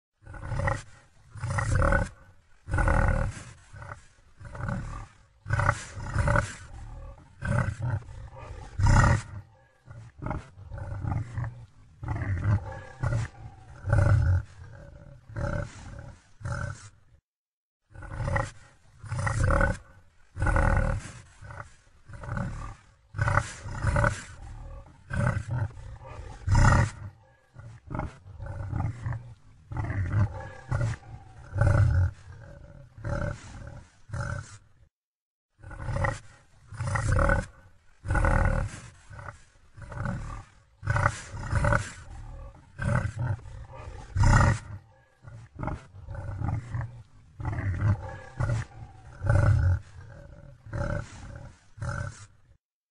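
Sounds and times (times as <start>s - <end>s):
deep animal growls and grunts: 0.2s - 17.2s, 17.8s - 34.9s, 35.5s - 52.6s.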